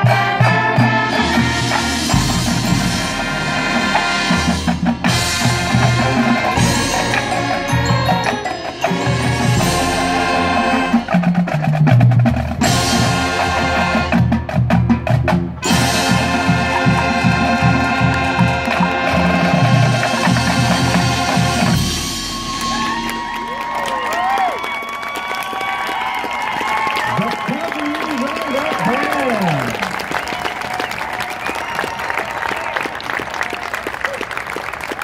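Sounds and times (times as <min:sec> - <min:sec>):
marching band playing: 0:00.0 - 0:35.0.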